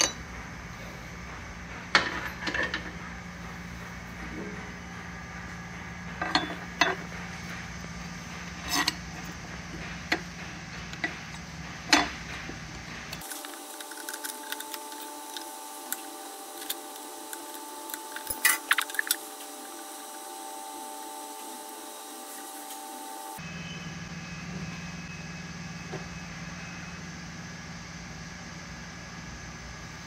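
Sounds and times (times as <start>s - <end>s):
steady shop hum: 0.0s - 30.0s.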